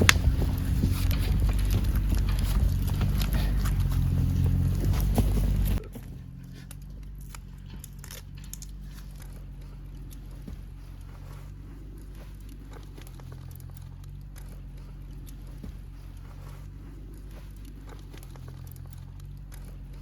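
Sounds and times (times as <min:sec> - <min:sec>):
low rumble of fire: 0:00.0 - 0:20.0
wood fire crackling and popping: 0:00.0 - 0:20.0.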